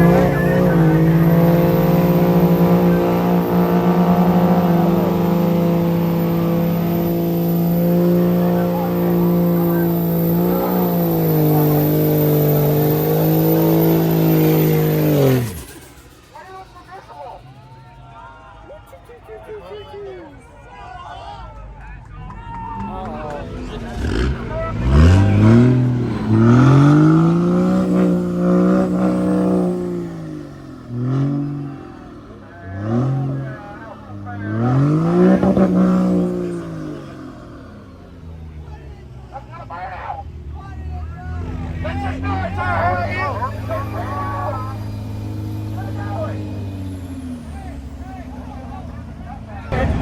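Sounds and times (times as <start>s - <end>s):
truck engine revving high: 0.0s - 18.9s, 22.5s - 50.0s.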